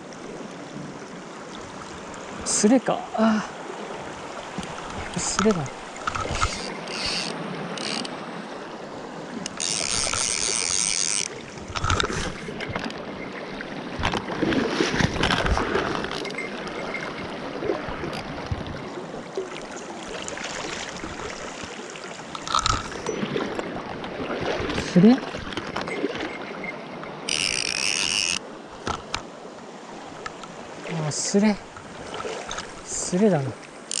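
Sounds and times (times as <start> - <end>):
stream rushing over stones: 0.0 - 34.0
water splashing: 1.5 - 26.6, 29.9 - 34.0.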